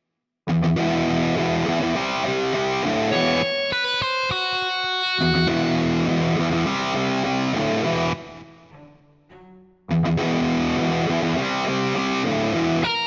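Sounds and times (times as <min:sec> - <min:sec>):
instrumental music: 0:00.6 - 0:13.0.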